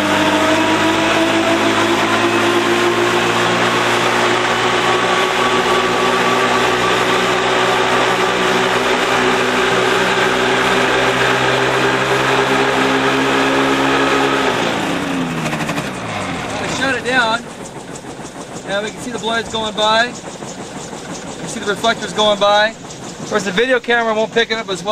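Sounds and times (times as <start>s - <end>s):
aircraft engine and propeller: 0.0s - 24.9s
high whine: 0.0s - 24.9s.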